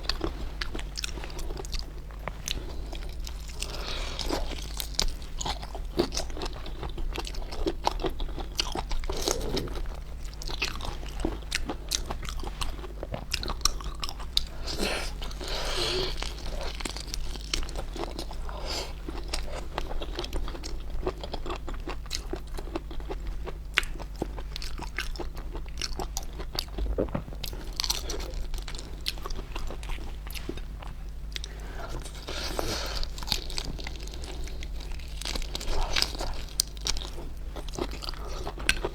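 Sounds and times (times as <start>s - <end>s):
biting and chewing food: 0.0s - 38.9s.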